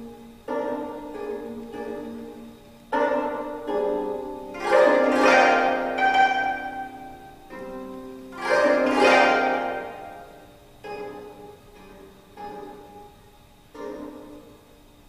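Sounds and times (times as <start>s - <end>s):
plucked zither chords: 0.0s - 14.8s.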